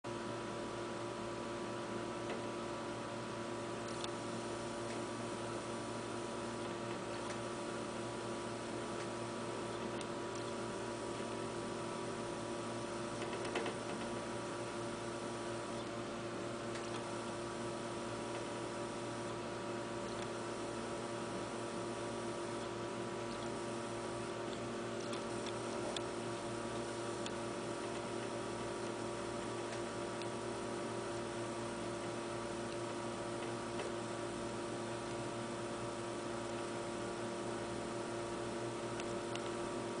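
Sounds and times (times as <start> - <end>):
electrical hum: 0.1 - 40.0.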